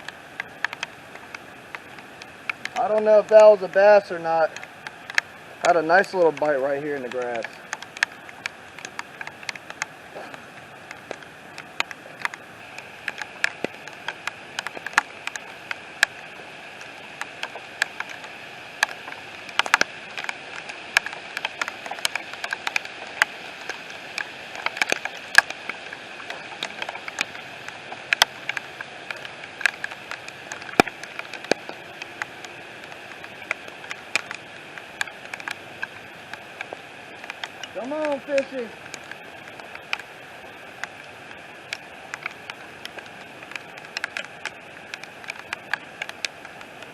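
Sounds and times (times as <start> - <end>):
heavy rain hiss: 0.0 - 46.9
raindrops tapping: 0.0 - 46.9.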